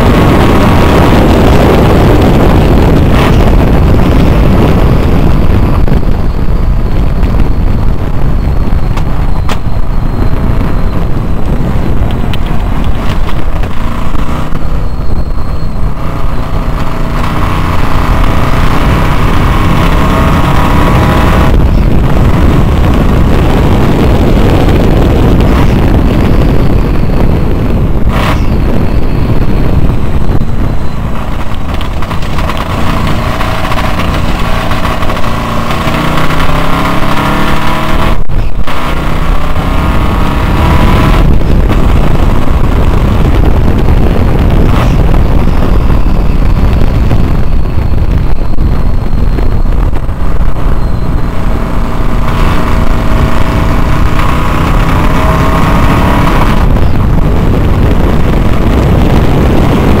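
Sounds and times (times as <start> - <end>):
racing engine accelerating: 0.0 - 60.0.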